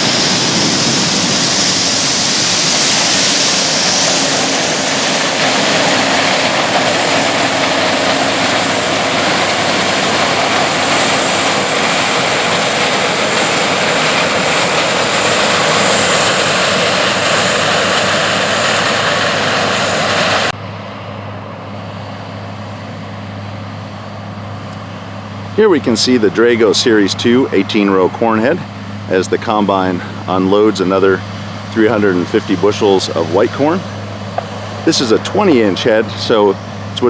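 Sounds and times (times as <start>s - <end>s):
combine harvester running: 0.0s - 37.0s
low engine hum: 0.0s - 37.0s.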